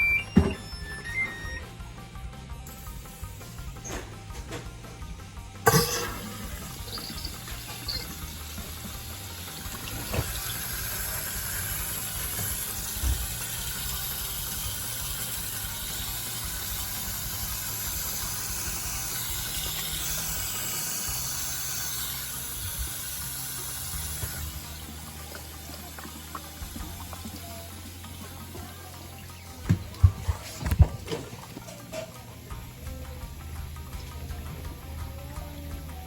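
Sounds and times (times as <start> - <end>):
water rushing into washing machine: 5.6 - 35.0.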